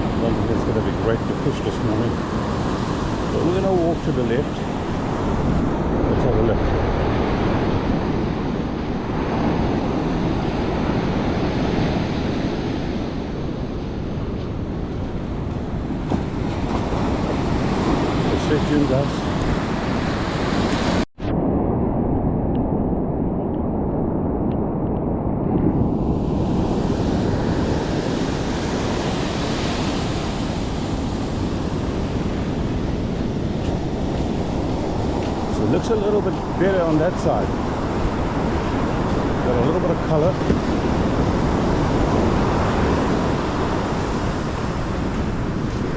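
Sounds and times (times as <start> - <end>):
surf rushing on beach: 0.0 - 22.0, 25.8 - 45.9
wind buffeting microphone: 0.0 - 45.9.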